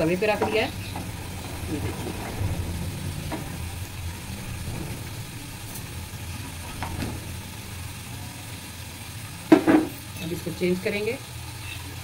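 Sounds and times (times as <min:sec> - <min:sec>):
steady low hum: 0:00.0 - 0:11.6
flatbread sizzling on hot pan: 0:00.0 - 0:12.0.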